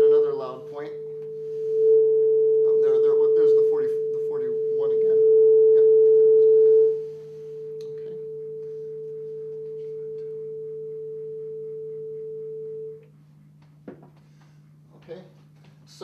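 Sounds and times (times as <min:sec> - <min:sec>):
steady pure tone: 0:00.0 - 0:14.1.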